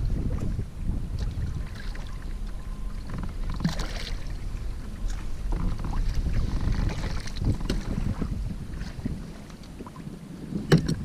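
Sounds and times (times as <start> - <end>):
water splashing: 0.0 - 10.1
steady low rumble: 0.0 - 11.0.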